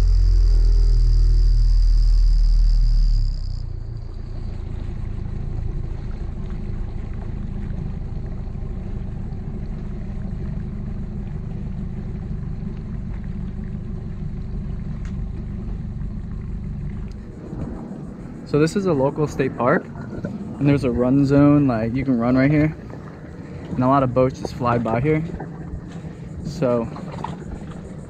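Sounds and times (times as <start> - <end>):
outboard motor rumbling: 0.0 - 28.0.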